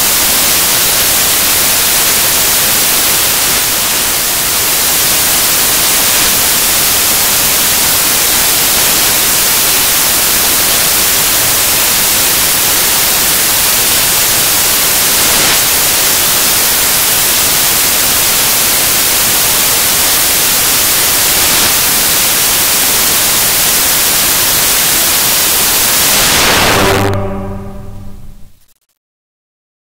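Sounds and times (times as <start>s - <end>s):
static hiss: 0.0s - 29.0s.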